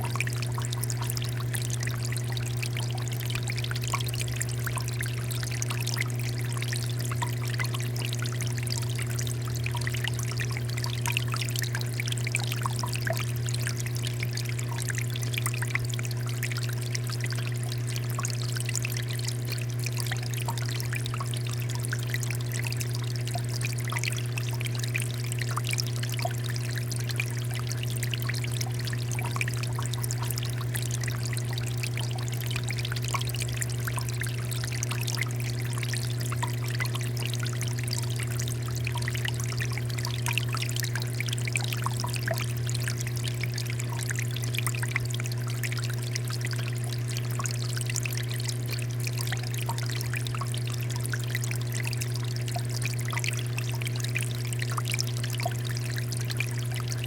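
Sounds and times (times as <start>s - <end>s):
water fountain pouring and trickling: 0.0s - 57.0s.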